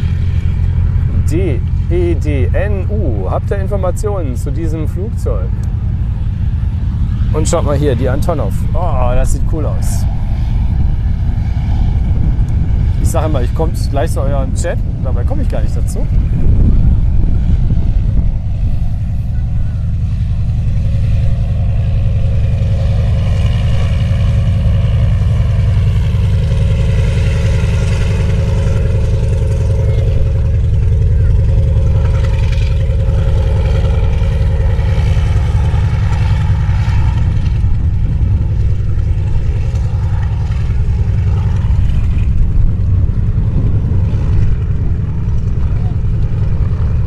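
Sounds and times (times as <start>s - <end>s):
radial engine droning: 0.0s - 47.0s.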